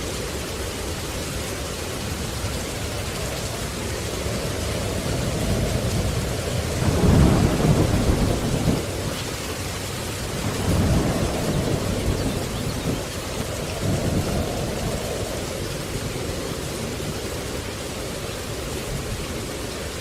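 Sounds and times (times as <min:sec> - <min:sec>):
steady rain: 0:00.0 - 0:20.0
thunder rumbling: 0:01.5 - 0:19.2.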